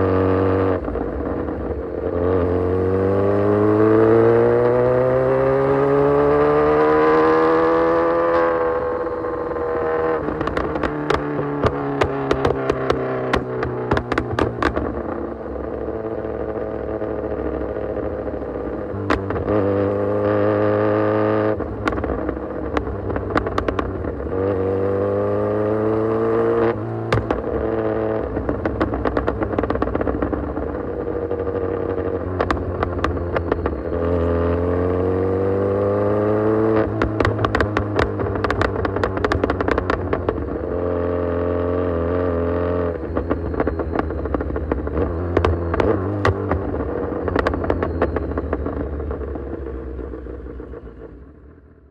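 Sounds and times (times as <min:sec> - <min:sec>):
exhaust crackles and pops: 0:00.0 - 0:02.5, 0:07.4 - 0:20.6, 0:21.3 - 0:51.9
motorcycle engine revving: 0:00.0 - 0:51.9.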